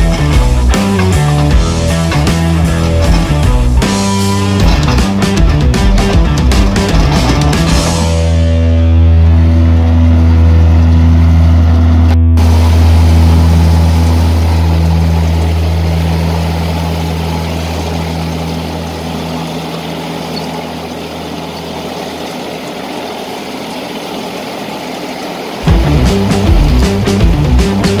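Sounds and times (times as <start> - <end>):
tractor engine under load: 0.0 - 8.4, 12.4 - 28.0.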